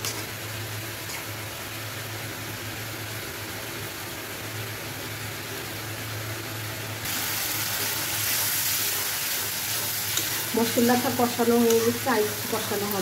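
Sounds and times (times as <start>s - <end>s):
loud sizzling of frying: 0.0s - 13.0s
pan cooking hiss: 0.0s - 13.0s.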